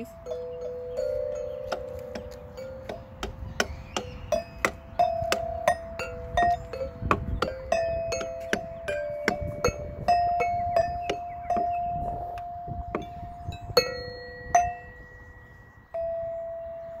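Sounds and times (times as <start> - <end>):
metal xylophone notes: 0.0 - 17.0.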